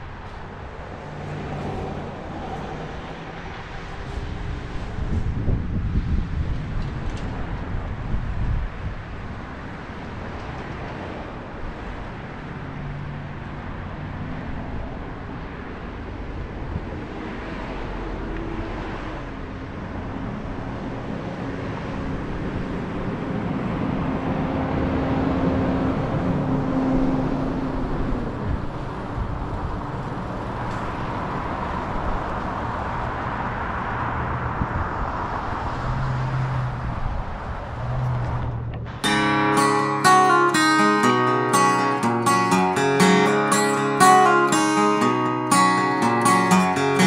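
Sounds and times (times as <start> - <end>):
passing cars: 0.0 - 47.0.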